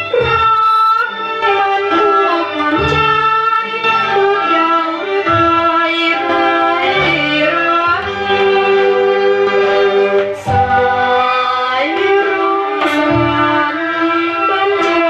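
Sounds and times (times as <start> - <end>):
song on vinyl record: 0.0 - 15.0
strings: 0.0 - 15.0.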